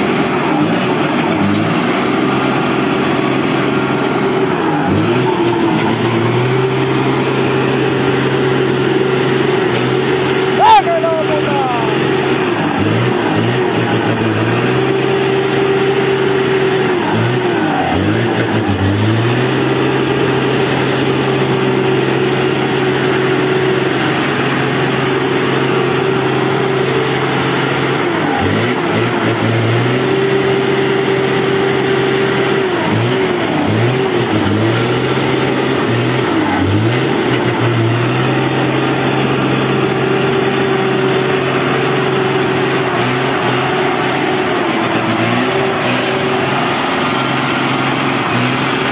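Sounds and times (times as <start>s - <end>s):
truck diesel engine pulling hard: 0.0s - 48.9s.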